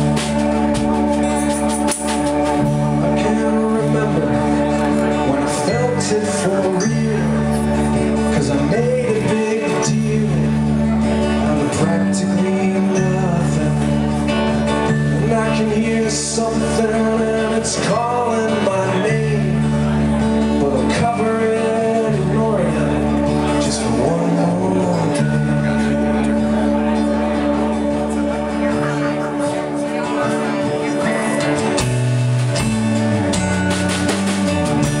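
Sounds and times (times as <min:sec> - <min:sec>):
live band playing: 0:00.0 - 0:35.0
sustained bass notes: 0:00.0 - 0:35.0.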